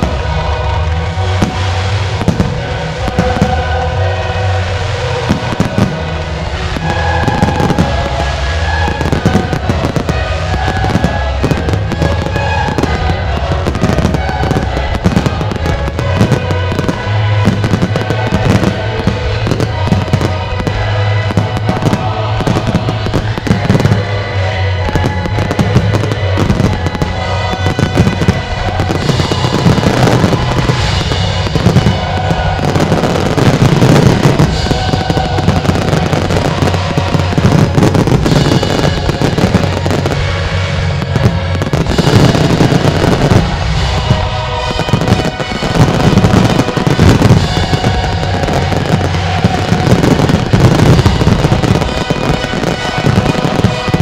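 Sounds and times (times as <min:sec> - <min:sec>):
fireworks bangs and crackle: 0:00.0 - 0:54.0
music soundtrack: 0:00.0 - 0:54.0.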